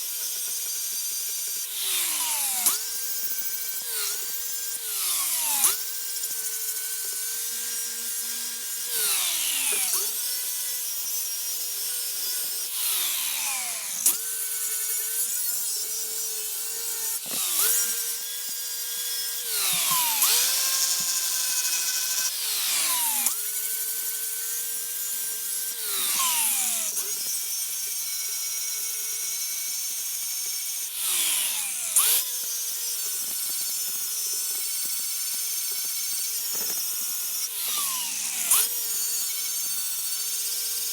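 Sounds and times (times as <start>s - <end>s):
rotary tool whining: 0.0s - 40.9s
tool grinding hiss: 0.0s - 40.9s.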